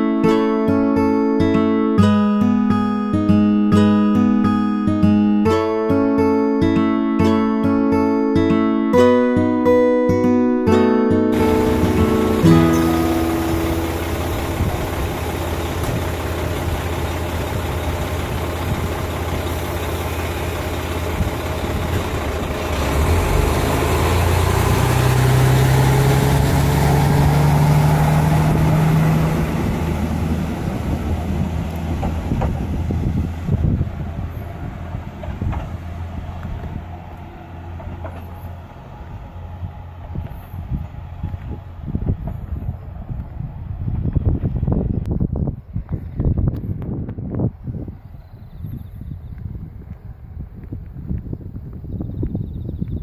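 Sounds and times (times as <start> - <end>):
diesel railcar engine: 0.0 - 53.0.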